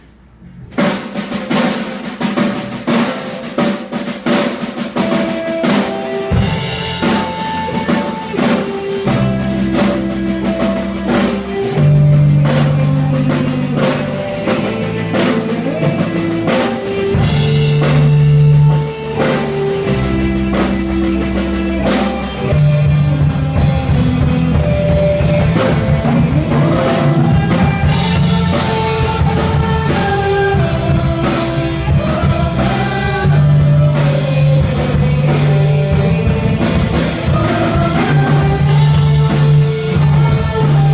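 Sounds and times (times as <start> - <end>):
drum kit beat: 0.6 - 40.9
band playing instrumental: 0.7 - 40.9
bass line: 4.2 - 40.9.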